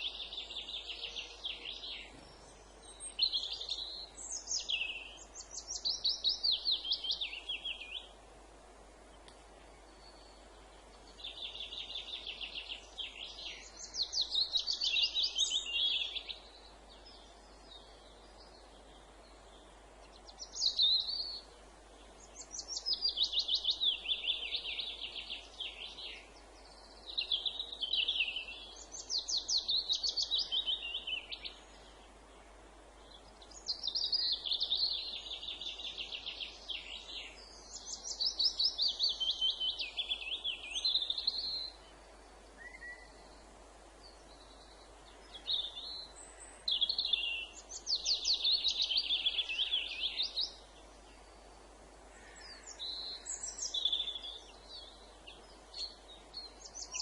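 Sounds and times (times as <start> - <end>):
faint background hiss: 0.0 - 57.0
songbird singing: 0.0 - 57.0.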